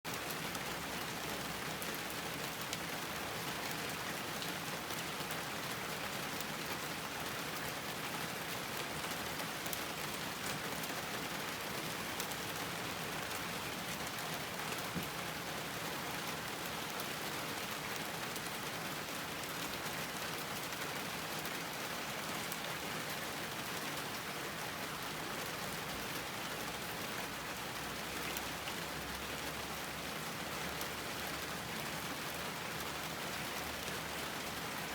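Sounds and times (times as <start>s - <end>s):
raindrops pattering on surfaces: 0.1s - 34.9s.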